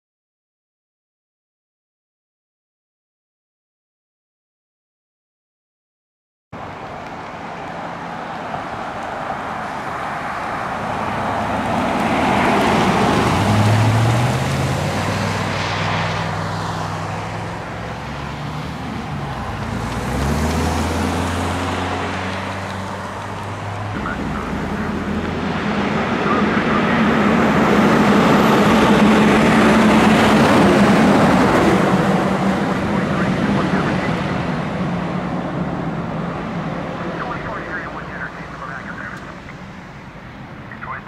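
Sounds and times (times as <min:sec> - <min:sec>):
vehicle driving past: 0:06.6 - 0:40.6
diesel engine droning: 0:06.6 - 0:41.0.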